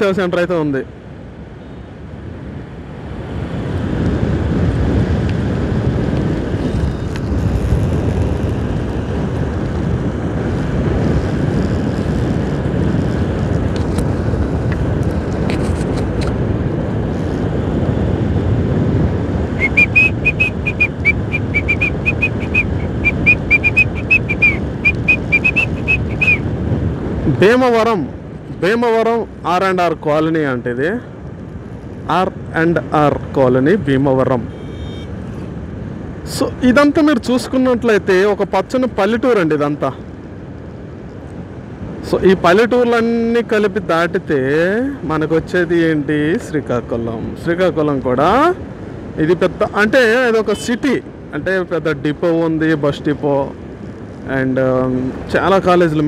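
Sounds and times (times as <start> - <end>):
wind rush: 0.0 - 56.0.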